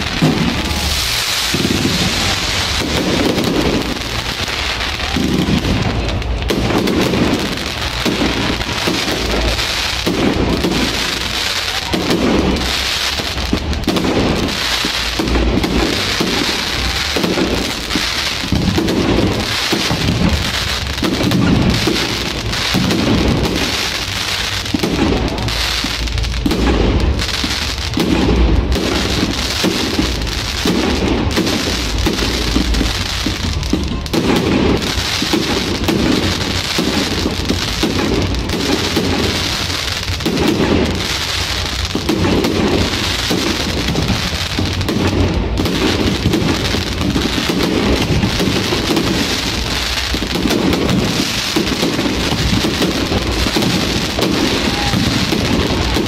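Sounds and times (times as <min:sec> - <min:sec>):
fireworks crackling and popping: 0:00.0 - 0:56.0
low fireworks rumble: 0:00.0 - 0:56.0.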